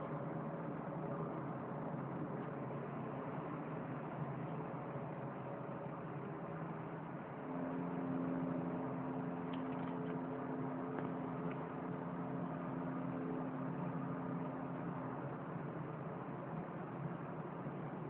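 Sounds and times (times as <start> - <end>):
low drone from the sky: 0.0 - 18.0
steady hum tone: 0.0 - 18.0.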